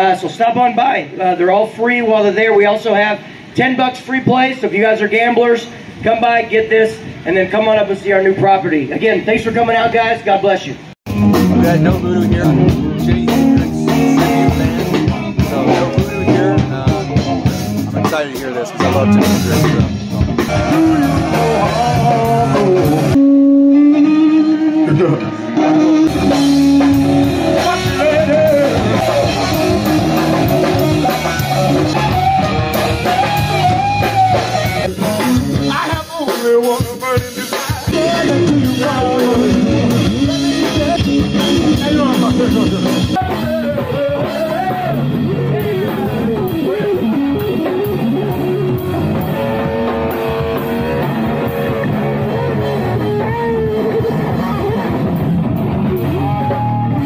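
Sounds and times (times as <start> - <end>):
electric guitars: 10.8 - 57.0
drum kit: 11.1 - 57.0.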